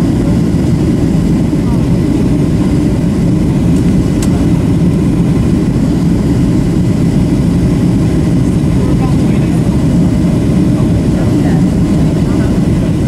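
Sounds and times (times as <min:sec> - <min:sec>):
airflow over fuselage: 0:00.0 - 0:13.0
jet engine cabin rumble: 0:00.0 - 0:13.0.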